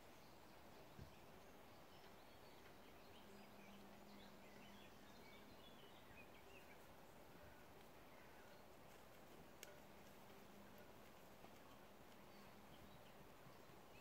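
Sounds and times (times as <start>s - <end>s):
distant birds chirping: 0.0s - 14.0s
faint steady hum: 0.0s - 14.0s.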